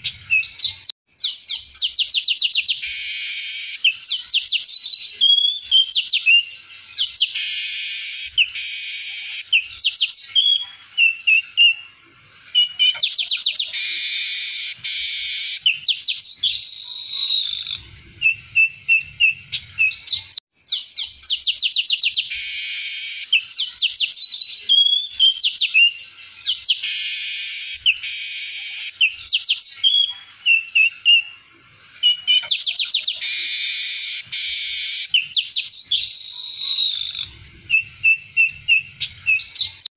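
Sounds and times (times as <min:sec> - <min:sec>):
weaver bird singing: 0:00.0 - 0:39.9.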